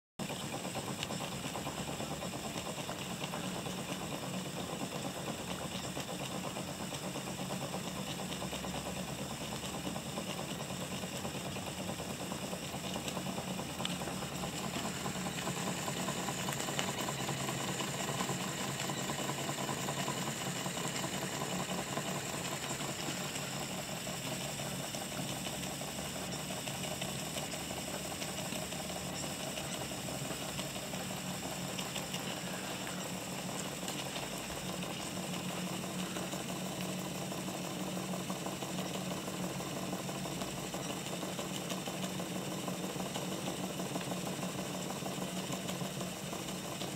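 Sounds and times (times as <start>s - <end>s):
toy steam engine rattling: 0.2s - 46.9s.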